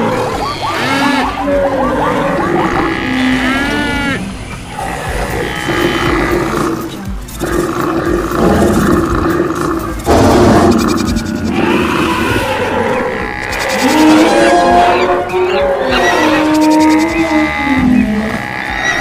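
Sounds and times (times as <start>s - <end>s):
music: 0.0s - 19.0s
wild animals roaring and calling: 0.0s - 19.0s.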